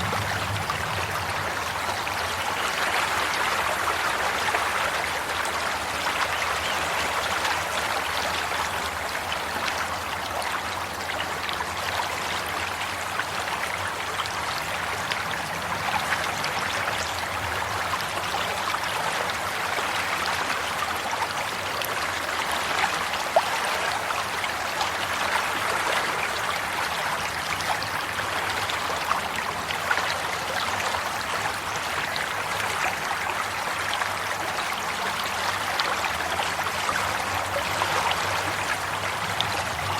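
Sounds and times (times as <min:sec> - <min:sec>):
stream babbling over stones: 0:00.0 - 0:39.9
water splashes: 0:00.0 - 0:39.9.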